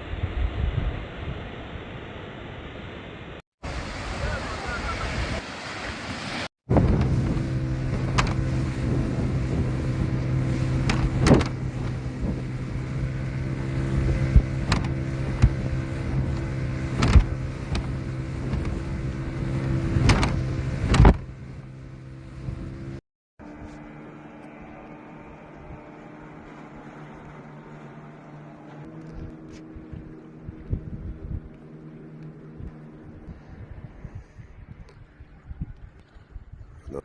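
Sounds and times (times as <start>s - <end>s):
engine humming: 3.7s - 36.2s.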